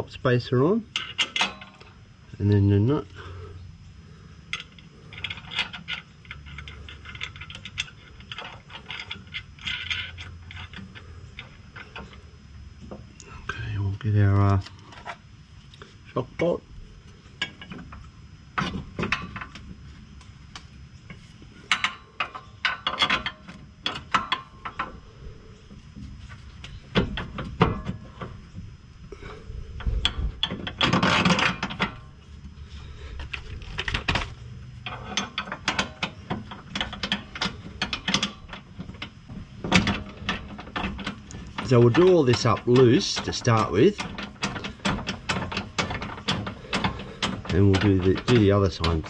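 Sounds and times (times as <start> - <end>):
metal bolt clicks and scrapes: 0.9 - 2.7, 4.5 - 12.9, 14.4 - 28.4, 29.2 - 49.0.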